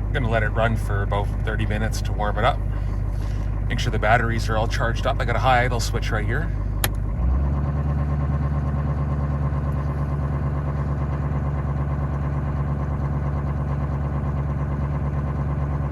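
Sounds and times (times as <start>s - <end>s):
diesel engine idling: 0.0s - 15.9s.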